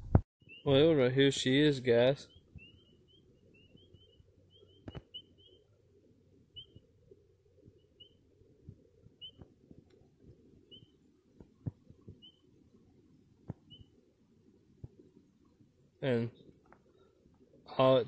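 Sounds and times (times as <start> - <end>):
faint bird chirps: 0.4 - 12.9, 13.5 - 14.1, 14.9 - 18.0.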